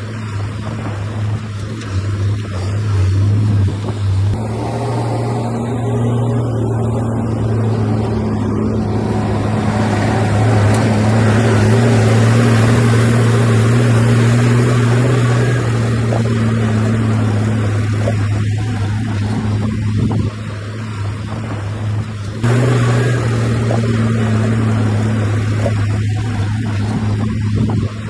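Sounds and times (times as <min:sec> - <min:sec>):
diesel engine droning: 0:00.0 - 0:28.0
noisy rush: 0:00.0 - 0:28.0.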